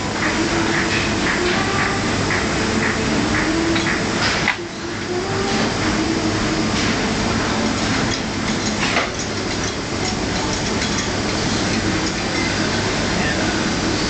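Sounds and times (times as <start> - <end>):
print machinery running: 0.0 - 14.0.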